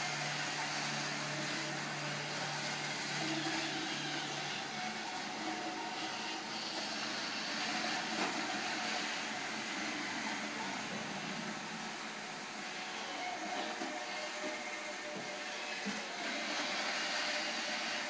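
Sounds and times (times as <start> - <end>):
robot vacuum motor and brush whir: 0.0 - 18.0.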